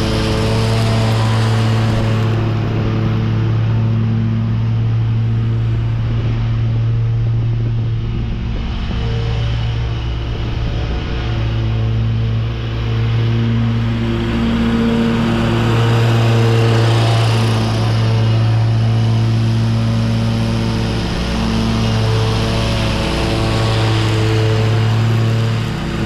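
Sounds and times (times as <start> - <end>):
lawn mower engine mulching leaves: 0.0 - 6.1, 10.5 - 26.0.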